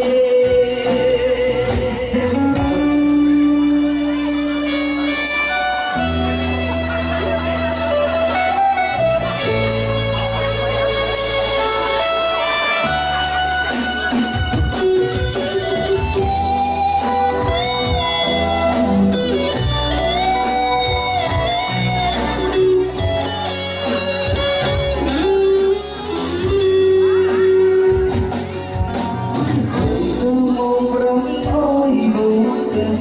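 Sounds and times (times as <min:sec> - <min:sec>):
band music: 0:00.0 - 0:33.0.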